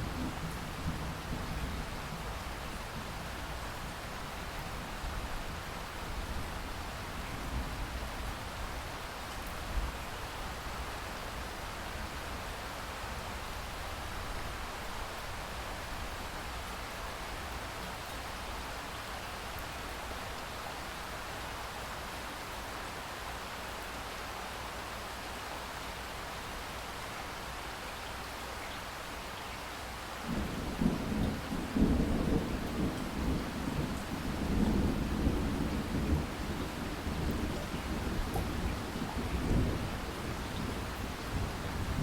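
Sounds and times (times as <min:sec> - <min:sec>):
rain hiss: 0:00.0 - 0:42.0.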